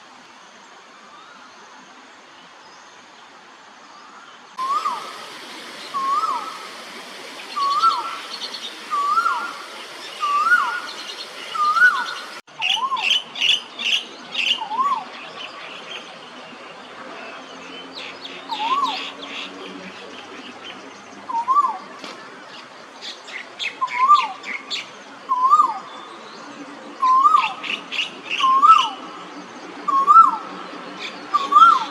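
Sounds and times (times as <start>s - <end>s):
birds chirping: 4.1s - 31.9s.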